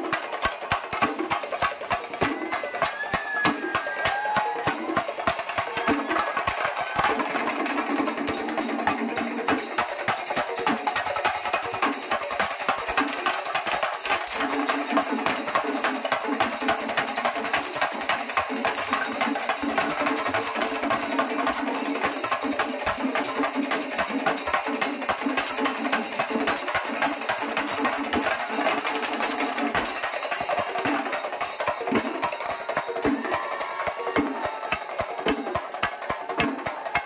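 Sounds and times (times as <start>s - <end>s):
drums beaten in fast rhythm: 0.0s - 37.0s.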